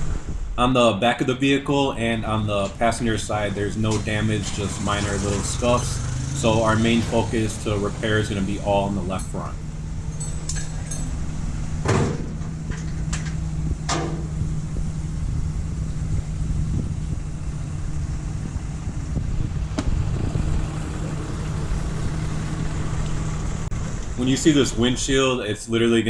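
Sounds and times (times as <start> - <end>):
low mechanical hum: 1.9 - 25.4.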